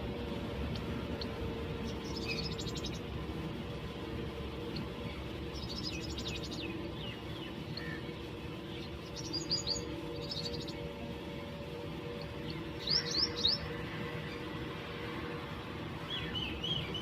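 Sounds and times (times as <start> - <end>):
steady low hum: 0.0 - 17.0
sparrows chirping: 0.5 - 3.2, 4.5 - 17.0.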